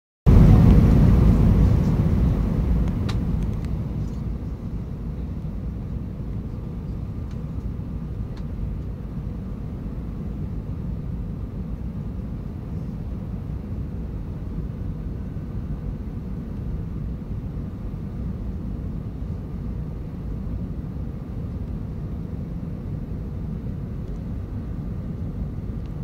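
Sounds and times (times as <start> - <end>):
airliner cabin engine rumble: 0.3 - 26.0.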